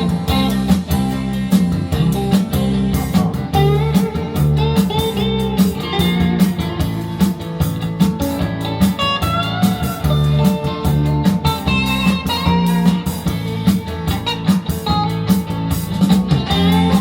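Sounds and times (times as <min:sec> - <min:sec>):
bass and drums: 0:00.0 - 0:17.0
lead electric guitar: 0:00.0 - 0:17.0.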